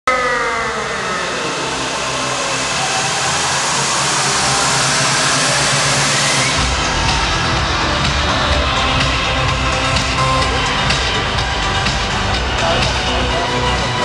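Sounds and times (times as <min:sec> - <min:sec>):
falling whine: 0:00.1 - 0:14.0
deep bass: 0:00.8 - 0:14.0.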